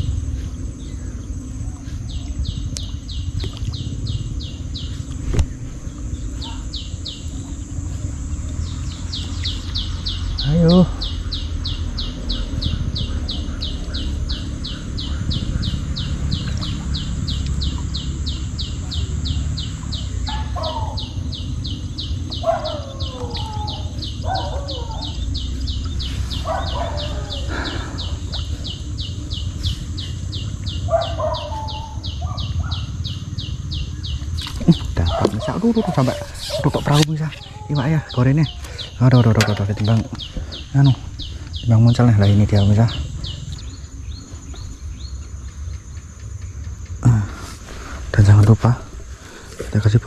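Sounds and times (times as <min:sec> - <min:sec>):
low background rumble: 0:00.0 - 0:50.0
lower bird calls: 0:00.0 - 0:50.0.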